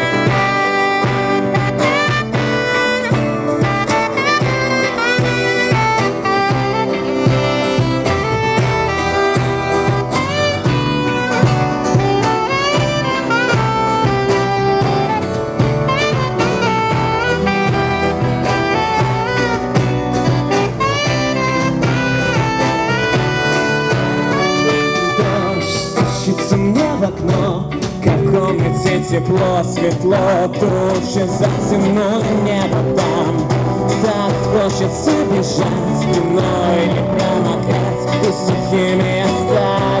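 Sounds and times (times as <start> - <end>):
live band playing: 0.0 - 40.0.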